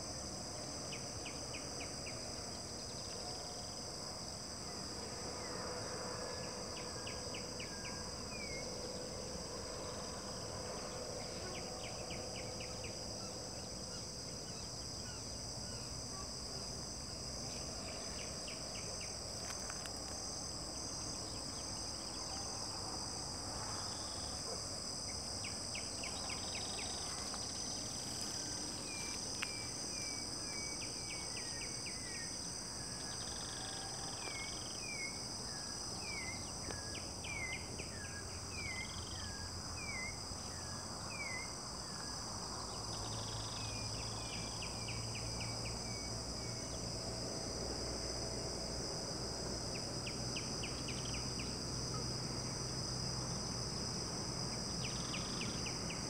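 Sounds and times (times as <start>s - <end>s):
crickets and insects chirping: 0.0s - 56.0s.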